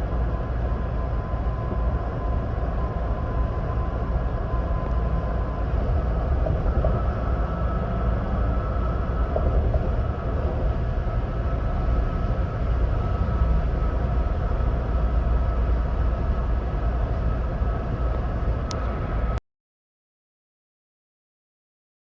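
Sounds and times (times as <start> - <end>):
engine drone: 0.0 - 19.4
faint steady whine: 0.0 - 19.4.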